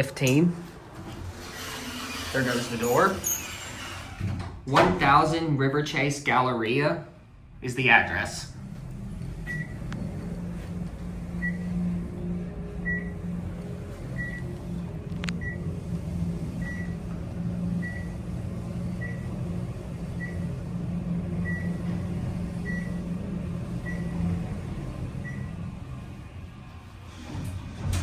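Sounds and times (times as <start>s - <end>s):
elevator hum: 0.0s - 28.0s.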